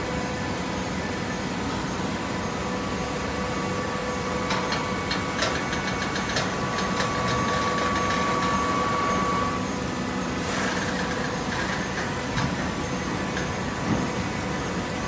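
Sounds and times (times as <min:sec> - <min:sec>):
electric motor and pump running: 0:00.0 - 0:15.0.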